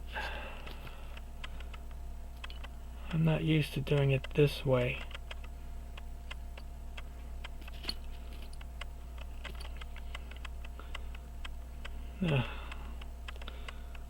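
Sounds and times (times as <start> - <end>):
steady low hum: 0.0 - 14.0
faint ticking clicks: 0.2 - 14.0.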